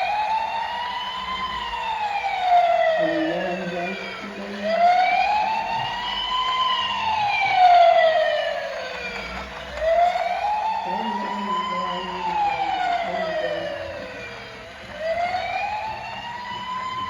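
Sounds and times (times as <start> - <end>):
toy electronic siren wailing: 0.0 - 17.0.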